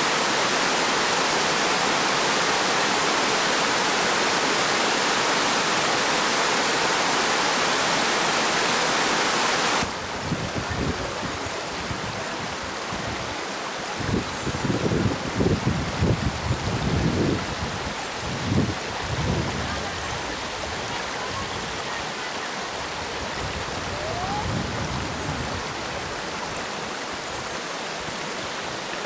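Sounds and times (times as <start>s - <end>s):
water cascading over stones: 0.0s - 29.0s.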